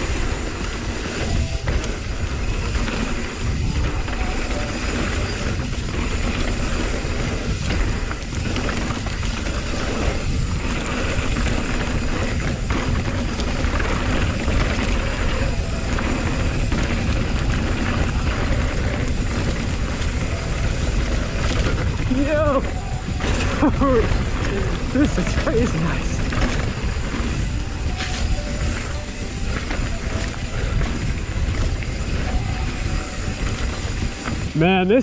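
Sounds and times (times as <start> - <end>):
bike tyres rumbling over dirt: 0.0 - 35.0
wind buffeting microphone: 0.0 - 35.0.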